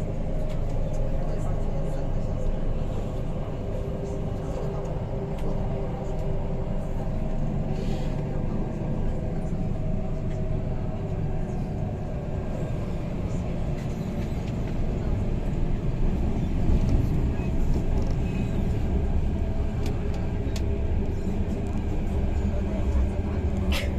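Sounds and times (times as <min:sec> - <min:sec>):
metro train rumble: 0:00.0 - 0:23.9.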